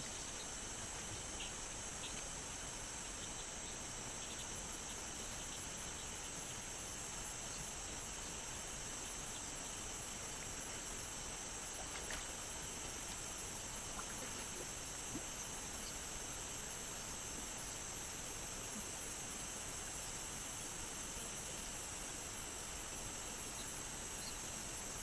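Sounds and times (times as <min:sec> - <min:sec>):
background hiss: 0:00.0 - 0:25.0
high-pitched insect chorus: 0:00.0 - 0:25.0.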